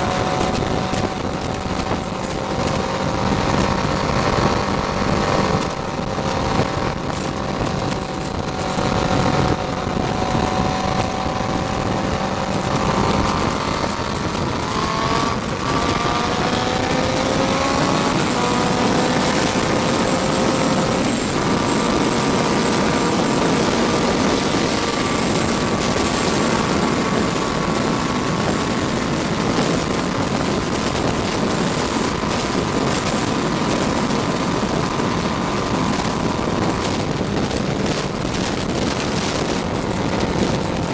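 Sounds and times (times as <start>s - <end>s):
motorcycle engine: 0.0s - 40.9s
wind rush on microphone: 0.0s - 40.9s.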